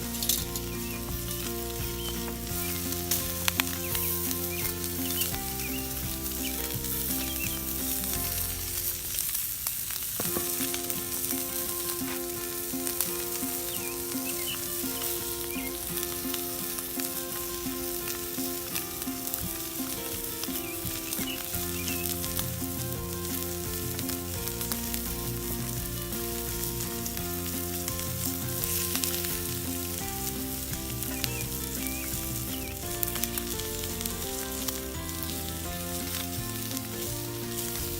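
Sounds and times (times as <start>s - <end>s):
background music: 0.0s - 9.5s, 10.2s - 37.9s
steak sizzling in a frying pan: 0.0s - 37.9s.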